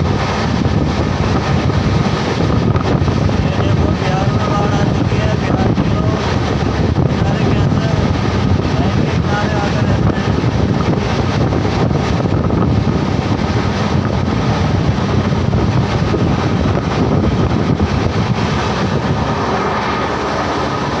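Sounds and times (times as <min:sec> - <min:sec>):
train rumbling: 0:00.0 - 0:21.0
wind buffeting microphone: 0:00.0 - 0:21.0.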